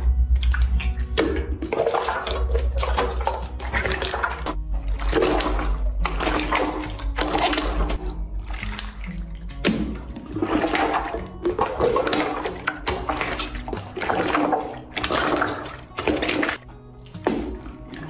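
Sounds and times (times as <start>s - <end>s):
slime squelching: 0.0s - 18.0s
soft background music: 0.0s - 18.0s.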